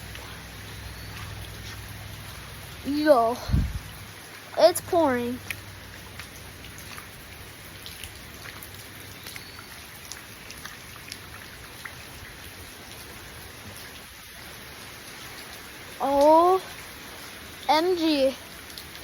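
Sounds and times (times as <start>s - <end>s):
heavy rain pouring: 0.0s - 19.0s
raindrops ticking close by: 0.0s - 19.0s.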